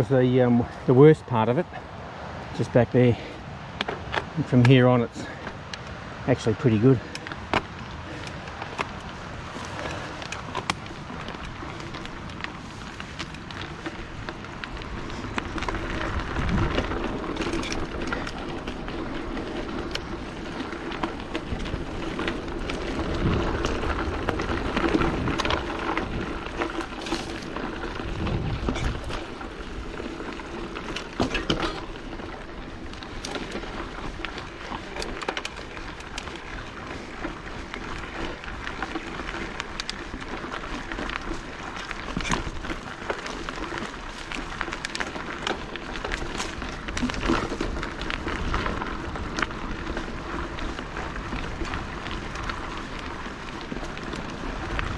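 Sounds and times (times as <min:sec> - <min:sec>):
bike tyres on dirt and gravel: 0:00.0 - 0:54.9
bike knocking and rattling: 0:02.6 - 0:54.9.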